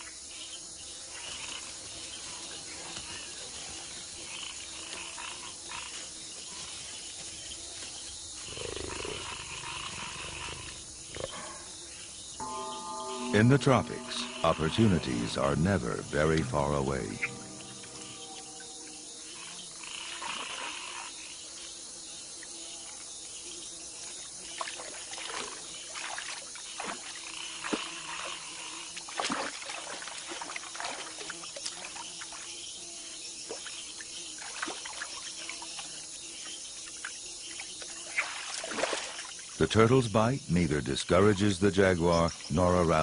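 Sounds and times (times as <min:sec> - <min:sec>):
frogs calling: 0:00.0 - 0:43.0
insects calling: 0:00.0 - 0:43.0.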